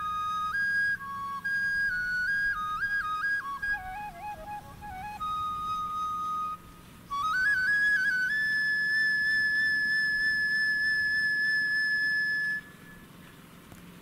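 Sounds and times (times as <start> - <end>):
flute-like melody: 0.0 - 13.1.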